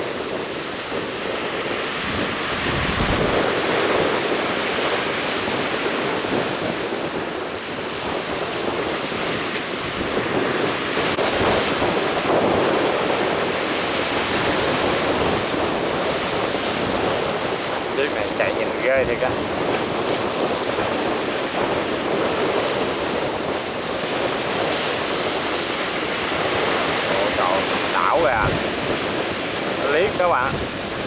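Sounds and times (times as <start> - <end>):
rough sea waves: 0.0 - 31.0
wind buffeting microphone: 0.0 - 31.0.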